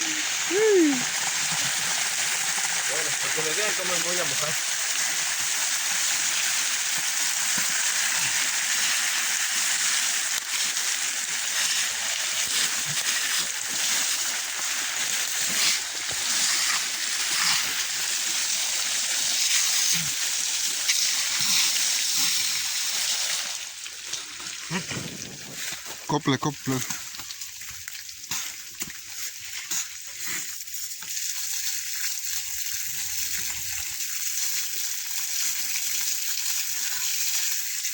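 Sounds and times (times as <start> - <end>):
pressurised water hissing and spraying: 0.0 - 37.9.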